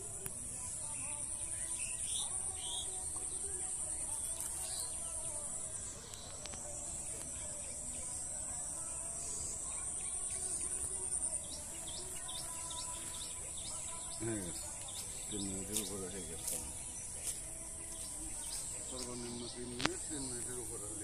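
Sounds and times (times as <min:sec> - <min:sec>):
insects trilling: 0:00.0 - 0:21.0
bird chirps: 0:00.2 - 0:21.0.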